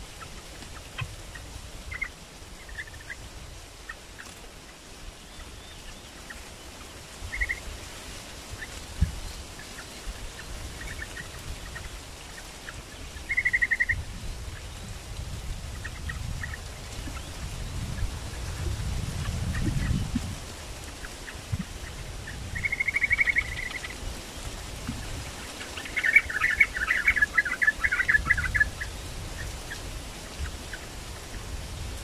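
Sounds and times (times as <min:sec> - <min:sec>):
birds chirping: 0:00.0 - 0:07.7, 0:08.5 - 0:14.9, 0:15.7 - 0:32.0.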